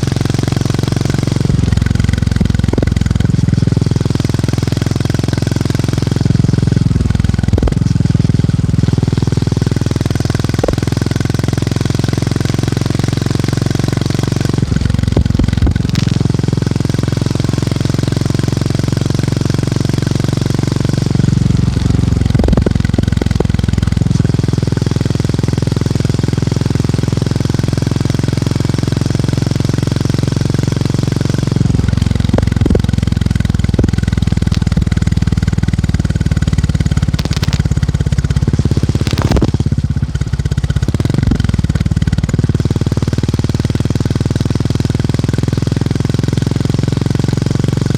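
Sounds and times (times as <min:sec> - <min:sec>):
motorcycle engine thumping: 0:00.0 - 0:47.9.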